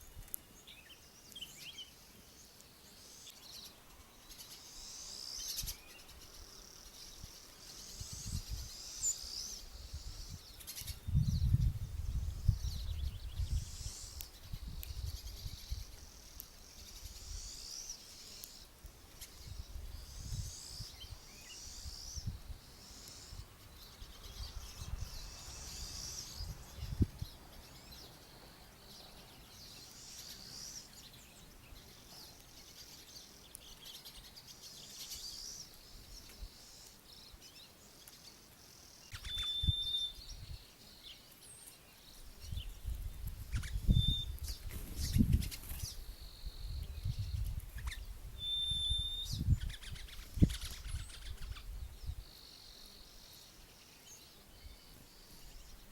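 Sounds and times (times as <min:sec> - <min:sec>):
small songbirds singing: 0:00.0 - 0:55.9.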